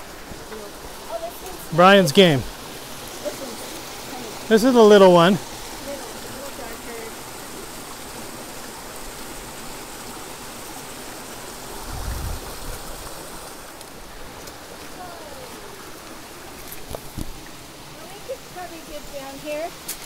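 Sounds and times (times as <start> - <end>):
water running over small waterfall: 0.0 - 20.0.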